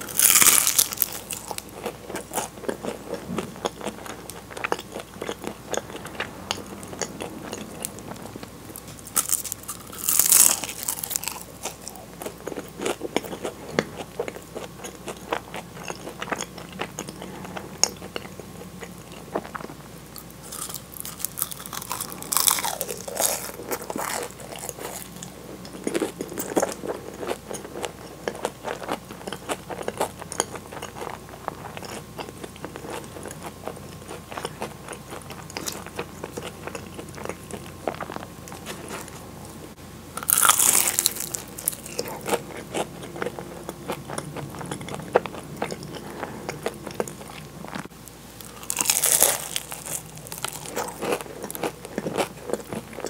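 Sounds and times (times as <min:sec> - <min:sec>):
crisp pastry crunching: 0:00.0 - 0:39.2, 0:40.2 - 0:53.0.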